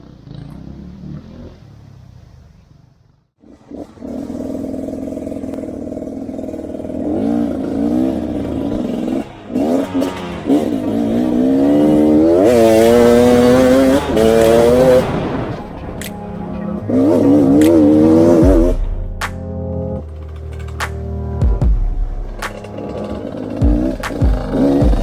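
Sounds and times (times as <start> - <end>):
off-road motorcycle engine revving: 0.0 - 25.0.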